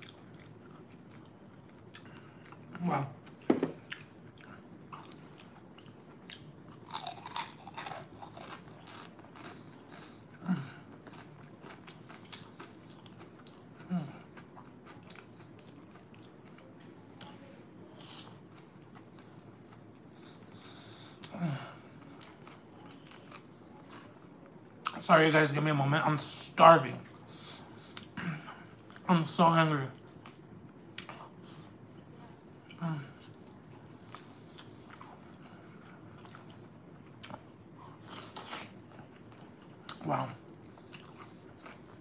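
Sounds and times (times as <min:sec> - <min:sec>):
close chewing with crunches: 0:00.0 - 0:25.0, 0:30.0 - 0:42.0.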